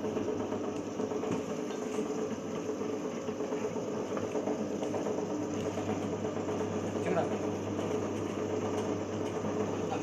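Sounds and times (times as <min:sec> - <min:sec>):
machine motor hum: 0:00.0 - 0:10.0.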